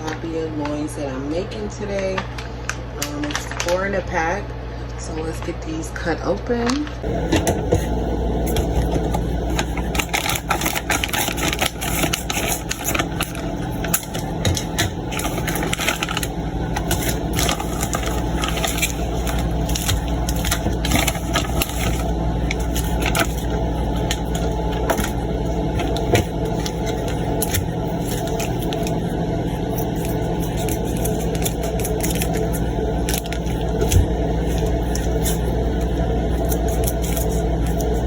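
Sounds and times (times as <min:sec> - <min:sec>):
steady low hum: 0:00.0 - 0:38.0
plastic packaging crinkling: 0:02.1 - 0:03.9, 0:06.9 - 0:38.0.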